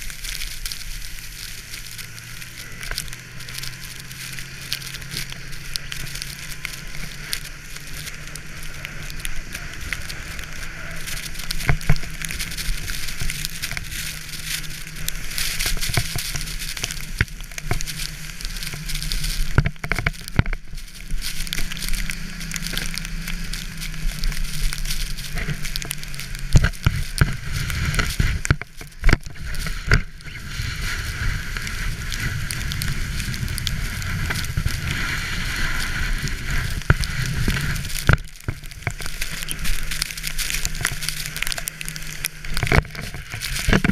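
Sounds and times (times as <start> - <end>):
sled scraping over snow: 0.0 - 43.9
snowmobile engine droning: 0.0 - 43.9.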